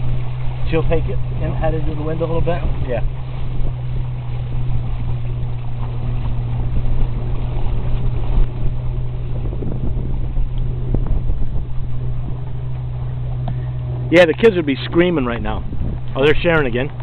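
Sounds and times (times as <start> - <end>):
steady low drone: 0.0 - 17.0
wind buffeting microphone: 0.0 - 17.0.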